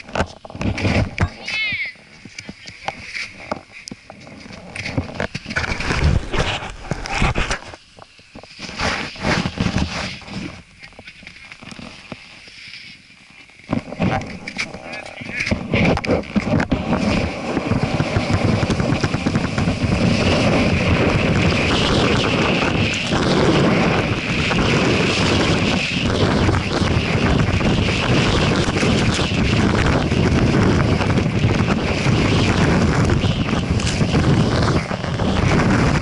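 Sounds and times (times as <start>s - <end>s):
wind rushing on microphone: 0.0s - 12.5s, 13.6s - 36.0s
skis scraping over packed snow: 0.0s - 36.0s.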